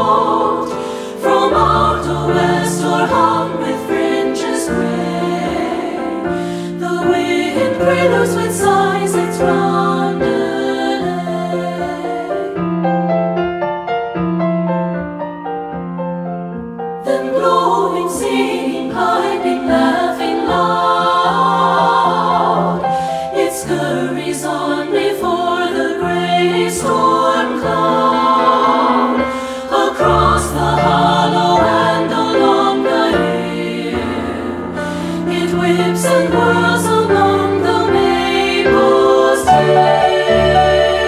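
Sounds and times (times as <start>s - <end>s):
women's choir singing: 0.0s - 12.7s, 17.0s - 41.0s
piano: 0.0s - 41.0s.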